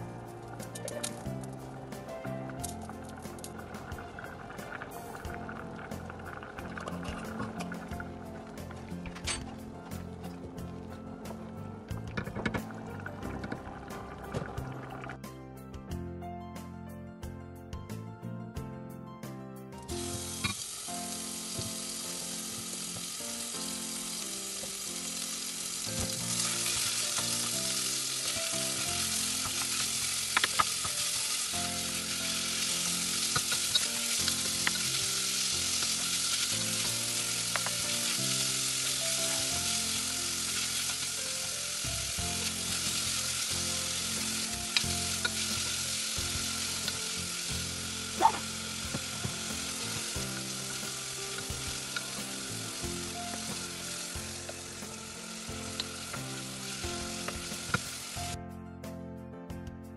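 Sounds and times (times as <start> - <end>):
meat sizzling in a saucepan: 0.0 - 15.2, 19.9 - 58.4.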